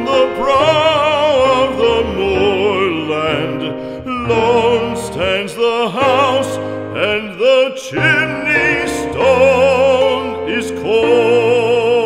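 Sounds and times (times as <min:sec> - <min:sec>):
operatic singer singing ballad: 0:00.0 - 0:12.0
soft musical accompaniment: 0:00.0 - 0:12.0.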